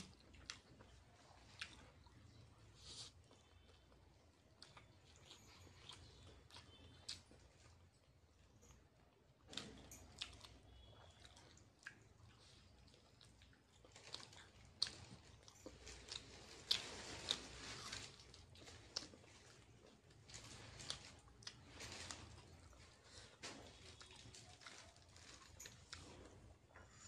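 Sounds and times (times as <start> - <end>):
person chewing fried chicken: 0.0 - 27.0.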